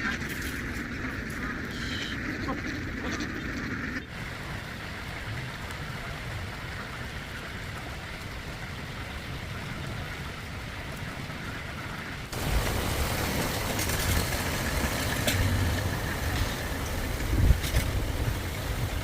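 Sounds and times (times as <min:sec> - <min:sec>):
steady rushing noise with low rumble: 0:00.0 - 0:19.0.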